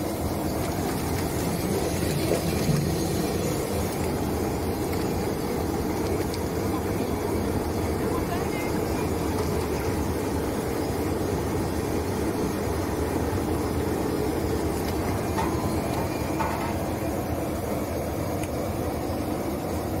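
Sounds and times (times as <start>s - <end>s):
vegetable washing machine running: 0.0s - 20.0s.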